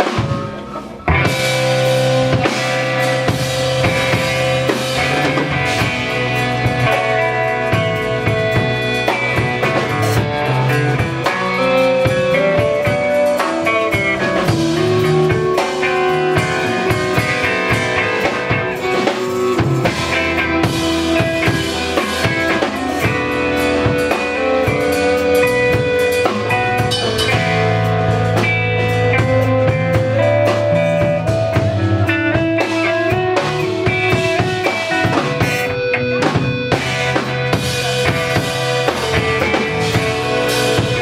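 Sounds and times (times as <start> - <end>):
steady drumming: 0.0 - 41.0
sustained electric guitar notes: 0.0 - 41.0.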